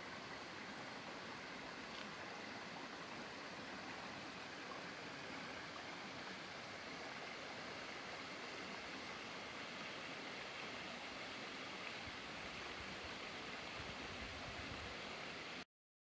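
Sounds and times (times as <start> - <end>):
stream rushing over rocks: 0.0 - 15.6.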